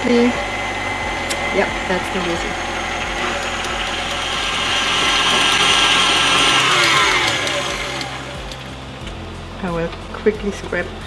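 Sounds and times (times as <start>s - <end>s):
stand mixer motor hum: 0.0s - 9.2s.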